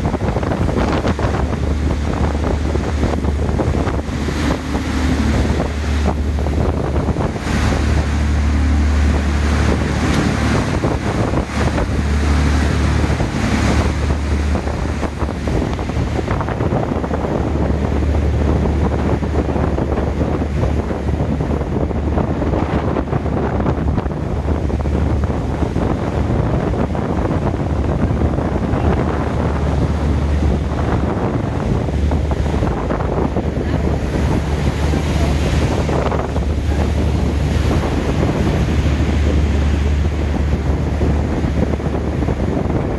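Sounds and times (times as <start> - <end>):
boat engine droning: 0.0 - 42.9
wake water rushing: 0.0 - 42.9
wind buffeting microphone: 0.0 - 42.9.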